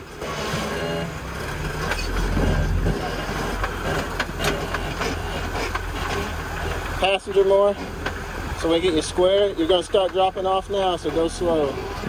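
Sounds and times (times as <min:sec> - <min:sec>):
engine rumbling at low crawl: 0:00.0 - 0:12.0.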